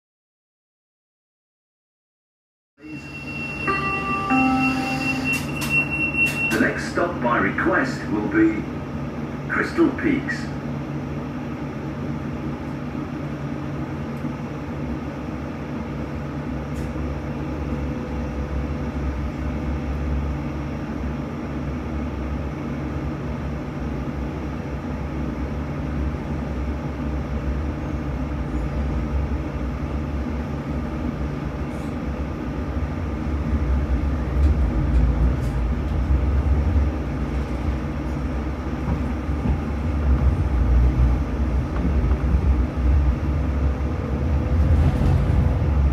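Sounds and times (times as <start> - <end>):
tram motor hum: 2.8 - 45.9
wheels rumbling on rail: 2.8 - 45.9.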